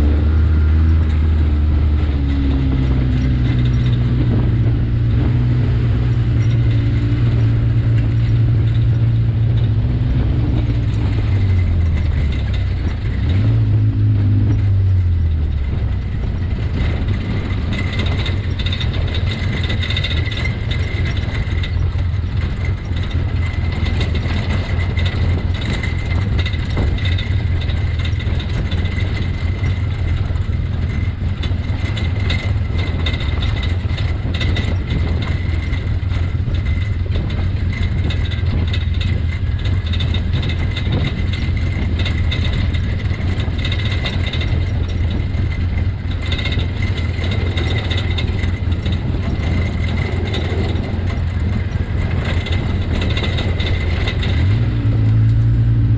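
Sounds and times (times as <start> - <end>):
knocks and rattles: 0.0 - 55.9
utility vehicle engine droning: 0.0 - 55.9.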